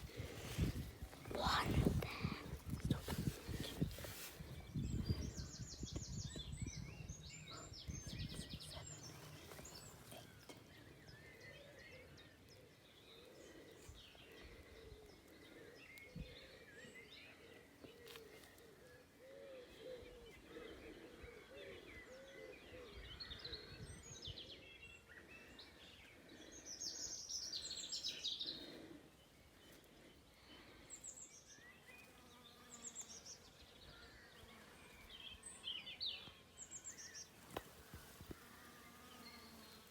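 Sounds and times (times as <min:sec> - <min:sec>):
birds chirping and trilling: 0:00.0 - 0:39.9
low outdoor background: 0:00.0 - 0:39.9.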